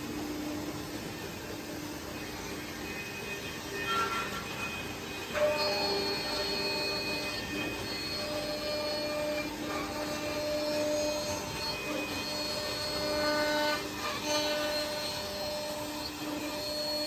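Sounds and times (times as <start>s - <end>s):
cnc machine spindle whine: 0.0s - 17.0s.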